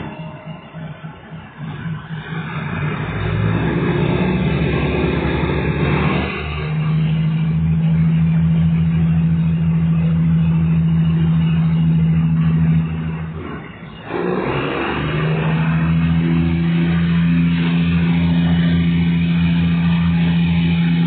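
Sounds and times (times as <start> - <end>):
diesel railcar engine: 0.0 - 21.0.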